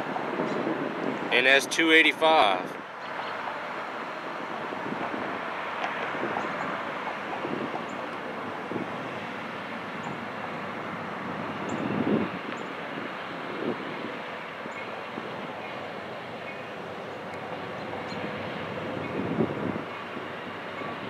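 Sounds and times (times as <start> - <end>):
locomotive engines droning: 0.0 - 21.0.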